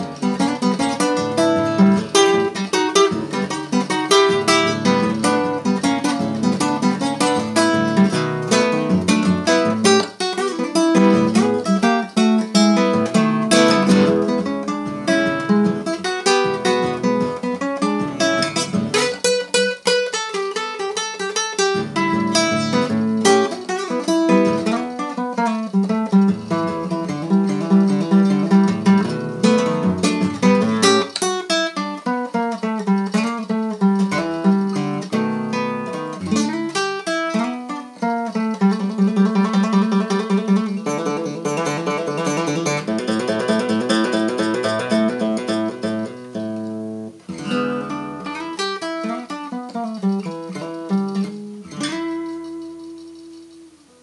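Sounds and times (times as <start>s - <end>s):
fingerpicked classical guitar: 0.0s - 54.0s.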